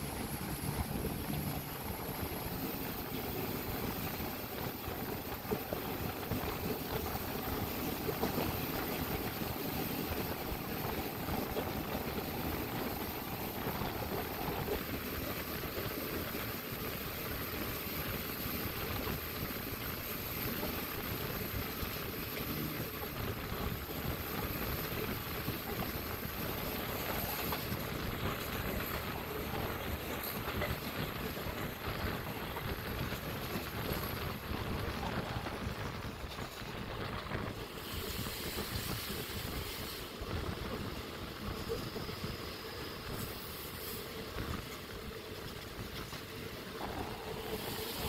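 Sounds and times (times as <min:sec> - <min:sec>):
rush of wind: 0:00.0 - 0:48.0
train wheels on rails: 0:00.0 - 0:48.0.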